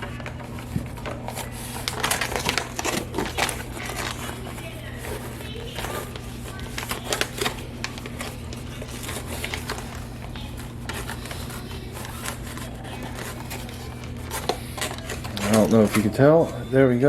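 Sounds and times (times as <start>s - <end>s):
plastic bag crinkling: 0.0s - 16.7s.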